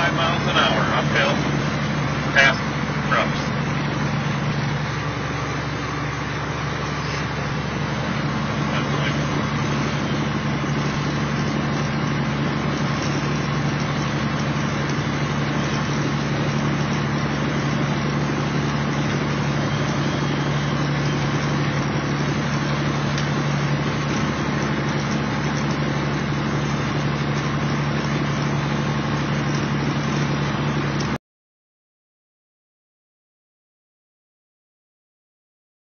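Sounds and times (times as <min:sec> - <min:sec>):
diesel engine running: 0:00.0 - 0:31.2
road and tyre noise: 0:00.0 - 0:31.2.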